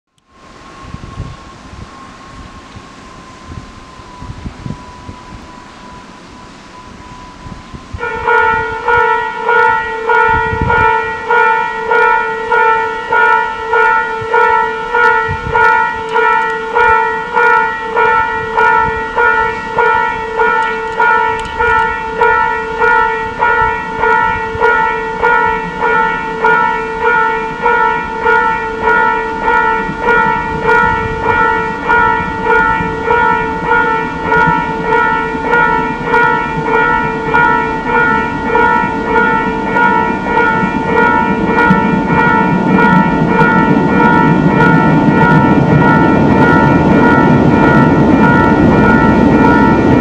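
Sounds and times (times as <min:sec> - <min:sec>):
electric train rumble: 0:00.2 - 0:50.0
warning bell ringing: 0:03.1 - 0:50.0.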